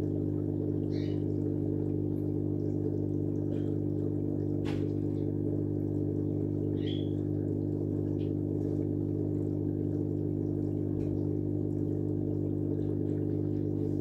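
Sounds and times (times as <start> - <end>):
aquarium pump humming: 0.0 - 14.0.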